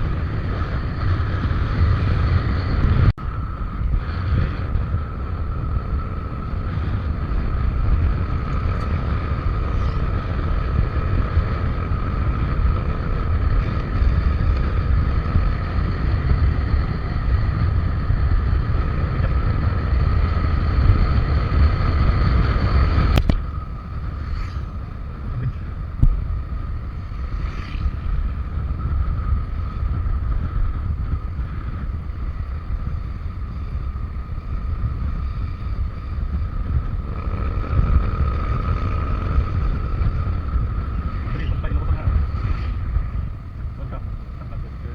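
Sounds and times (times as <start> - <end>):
scooter engine whine: 0.0 - 44.9
wind rumble on microphone: 0.0 - 44.9.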